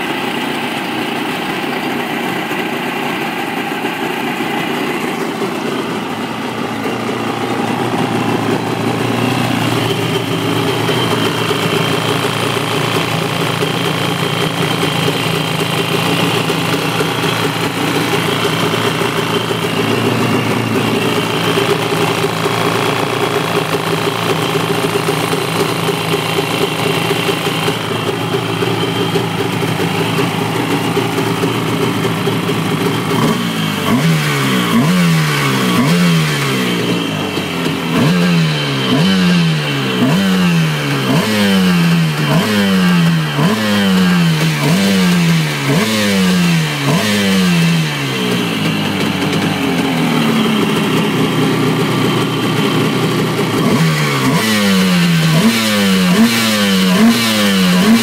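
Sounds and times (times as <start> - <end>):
two-stroke engine idling and revving: 0.0 - 58.0.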